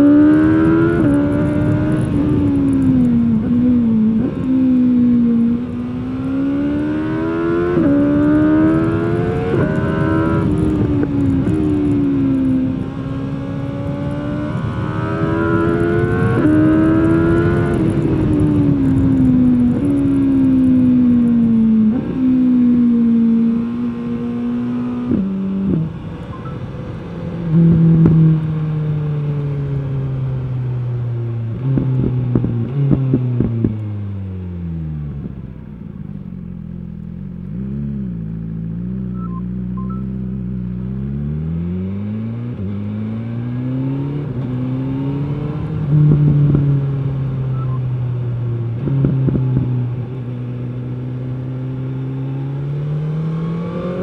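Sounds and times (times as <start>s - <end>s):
motorcycle engine revving: 0.0s - 35.6s, 36.2s - 54.0s.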